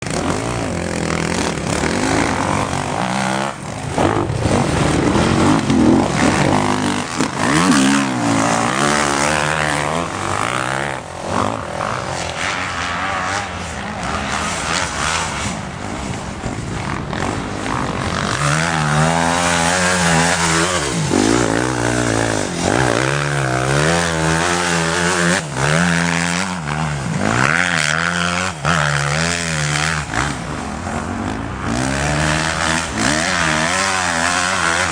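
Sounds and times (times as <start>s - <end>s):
motocross bikes revving: 0.0s - 34.9s.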